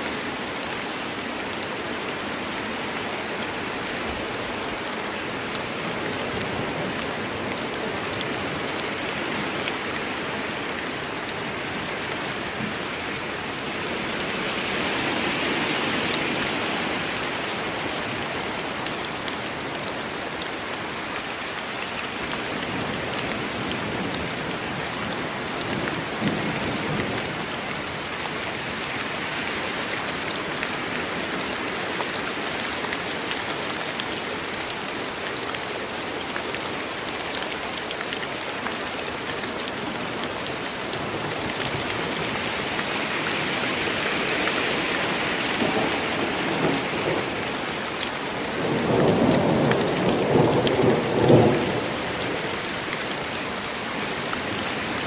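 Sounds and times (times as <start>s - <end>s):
heavy rain on forest foliage: 0.0s - 55.0s
raindrops pattering: 0.0s - 55.0s.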